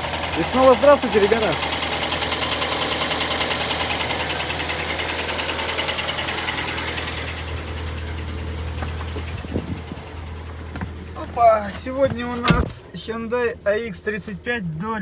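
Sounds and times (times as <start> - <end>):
engine idling with metallic knock: 0.0 - 13.1.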